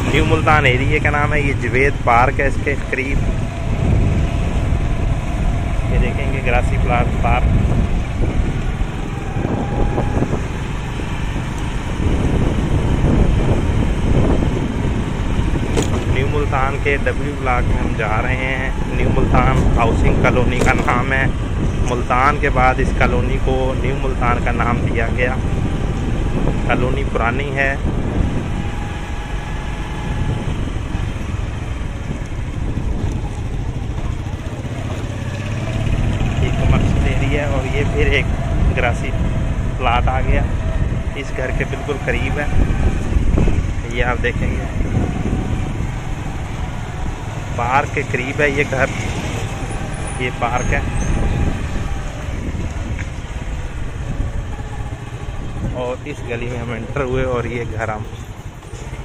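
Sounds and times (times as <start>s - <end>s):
vehicle engine and road noise: 0.0s - 59.0s
wind rumble on microphone: 0.0s - 59.0s.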